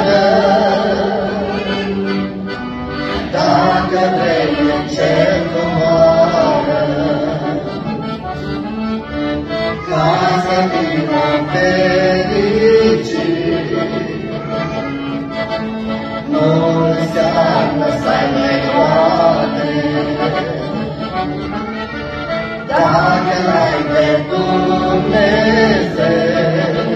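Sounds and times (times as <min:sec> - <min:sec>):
person singing: 0:00.0 - 0:02.4, 0:03.2 - 0:07.9, 0:09.8 - 0:15.1, 0:16.2 - 0:21.2, 0:22.6 - 0:26.9
accordion: 0:00.0 - 0:26.9.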